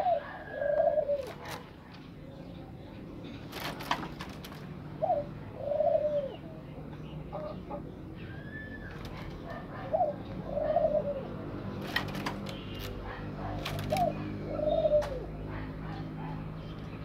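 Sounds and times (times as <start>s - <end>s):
bird cooing: 0.0s - 2.6s, 3.5s - 17.0s.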